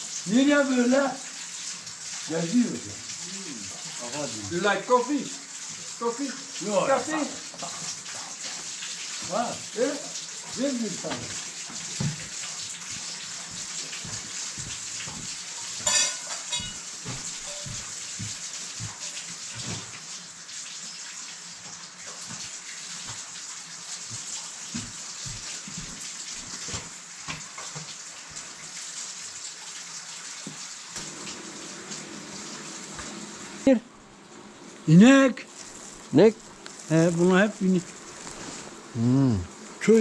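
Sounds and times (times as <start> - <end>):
running water splashing: 0.0 - 40.0.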